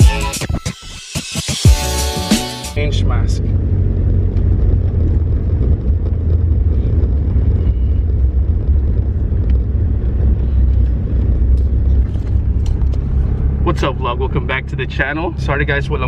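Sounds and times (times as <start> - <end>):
vehicle engine rumbling: 2.8 - 16.0.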